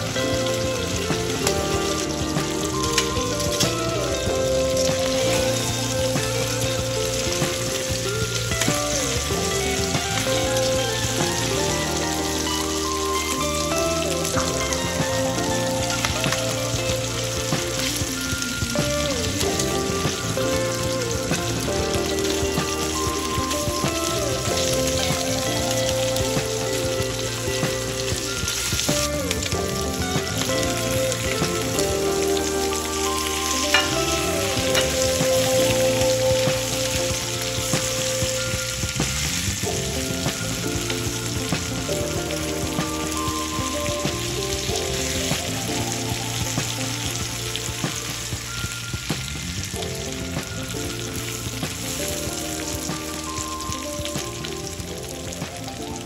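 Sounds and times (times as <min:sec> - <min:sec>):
meat sizzling in frying pan: 0:00.0 - 0:56.0.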